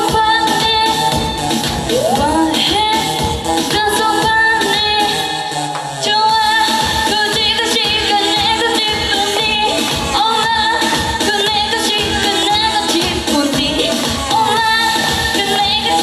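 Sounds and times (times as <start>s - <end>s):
pop music over loudspeakers: 0.0s - 16.0s
woman singing: 0.0s - 16.0s.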